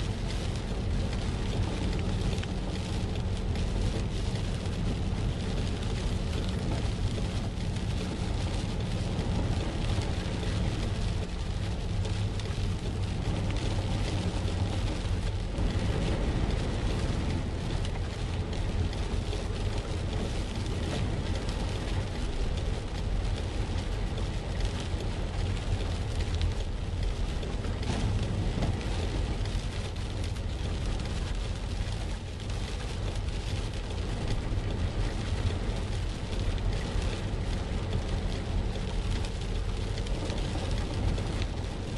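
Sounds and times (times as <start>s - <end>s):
car driving on wet road: 0.0s - 41.9s
rain on car windshield and roof: 0.0s - 41.9s.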